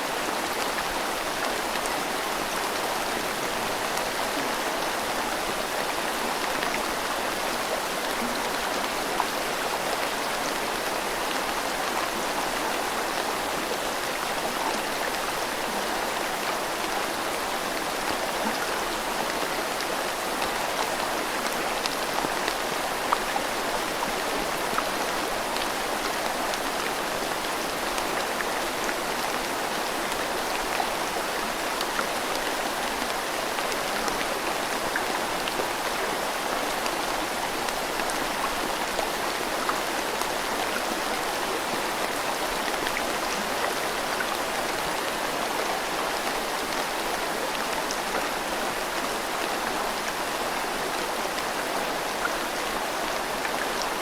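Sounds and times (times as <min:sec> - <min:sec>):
rain falling: 0:00.0 - 0:54.0
river flowing: 0:00.0 - 0:54.0.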